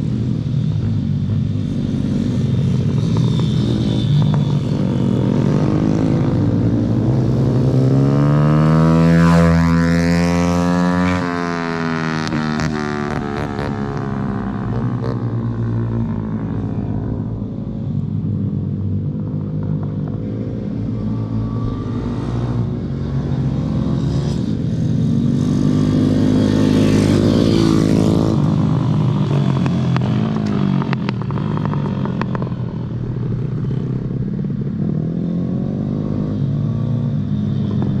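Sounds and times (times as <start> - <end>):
motorbike engines revving: 0.0 - 38.0.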